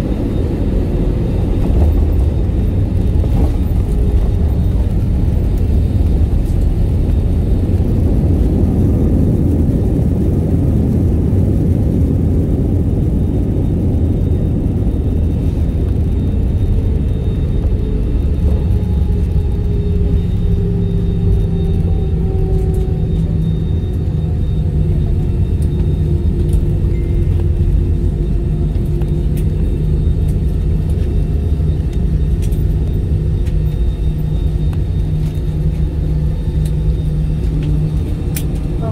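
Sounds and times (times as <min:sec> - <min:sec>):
airplane engines and wheels rumbling: 0:00.0 - 0:38.9
faint engine whine: 0:00.0 - 0:38.9.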